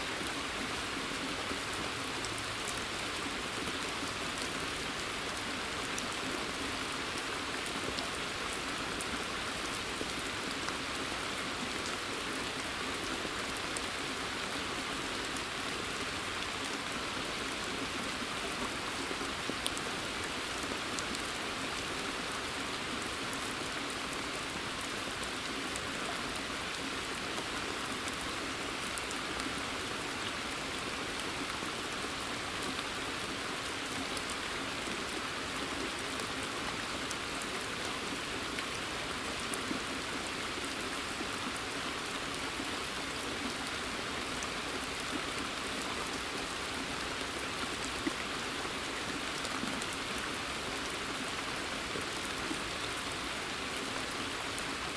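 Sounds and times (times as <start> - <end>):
rain falling on water: 0.0 - 54.9.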